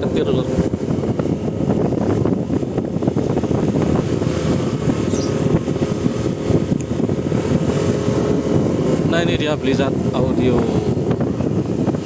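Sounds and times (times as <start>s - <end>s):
vehicle engine climbing under load: 0.0s - 12.0s.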